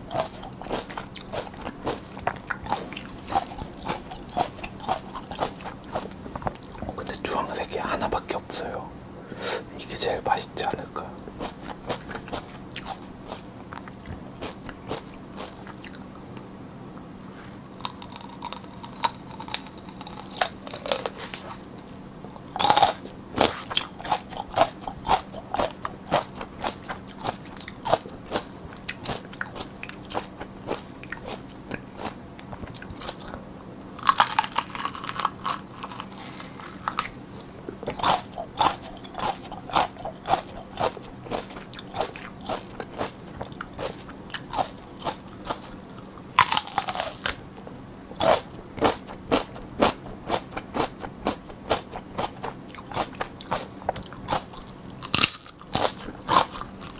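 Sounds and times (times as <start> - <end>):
wet crunchy chewing: 0.0 - 8.8, 9.8 - 16.0, 17.7 - 47.6, 48.2 - 56.9.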